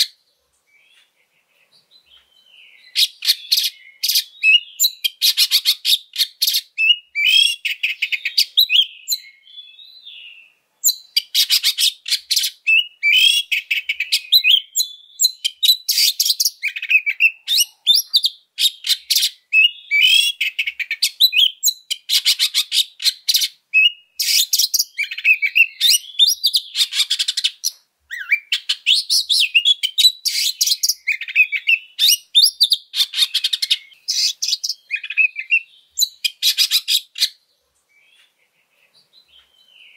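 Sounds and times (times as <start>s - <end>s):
bird singing harsh chattering song: 0.0s - 39.9s.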